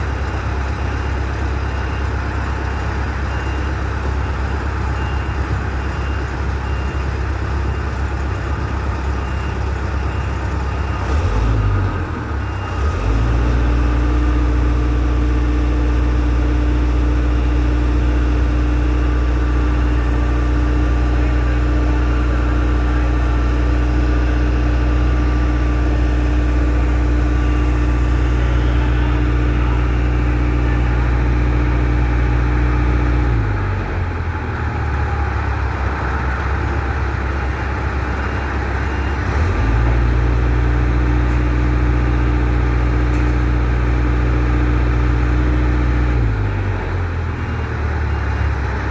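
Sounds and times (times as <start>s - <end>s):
large engine humming: 0.0s - 48.9s.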